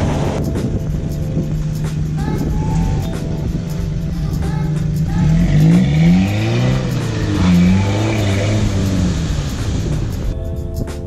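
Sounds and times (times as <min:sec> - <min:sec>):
pickup truck engine revving: 0:00.0 - 0:00.8, 0:01.4 - 0:10.4.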